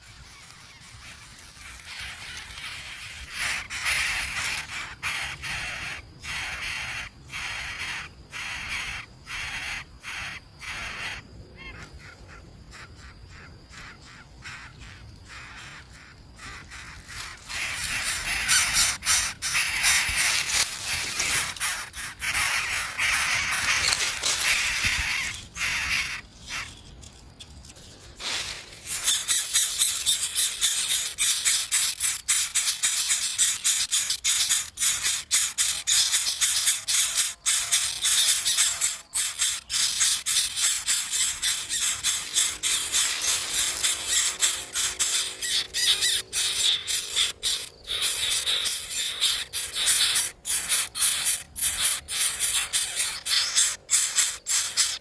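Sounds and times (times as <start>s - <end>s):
harsh raspy bird calls: 0.0s - 26.8s, 28.3s - 55.0s.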